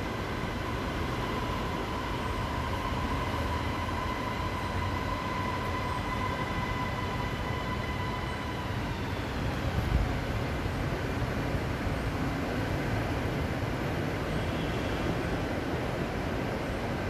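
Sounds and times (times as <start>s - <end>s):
electric train rumble and whine: 0.0s - 17.0s.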